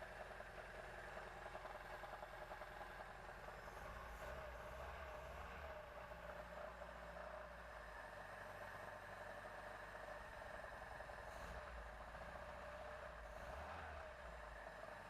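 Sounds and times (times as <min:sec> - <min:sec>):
engine idling with rapid ticking: 0:00.0 - 0:15.0.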